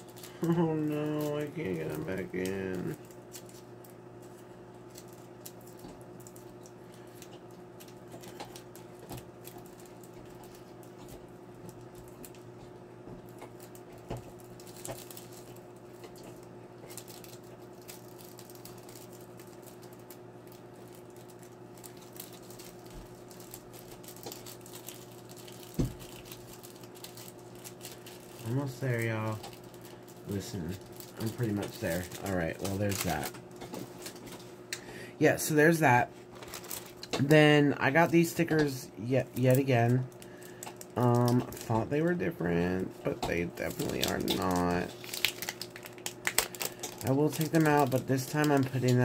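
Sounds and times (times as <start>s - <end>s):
plastic packaging rustling: 0.0s - 34.6s, 35.8s - 49.0s
steady hum: 0.0s - 49.0s.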